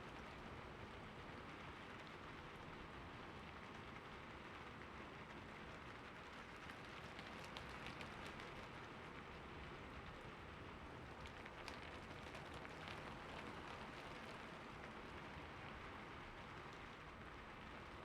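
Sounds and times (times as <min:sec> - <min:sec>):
raindrops ticking on a surface: 0:00.1 - 0:18.0
steady rain falling: 0:00.1 - 0:18.0.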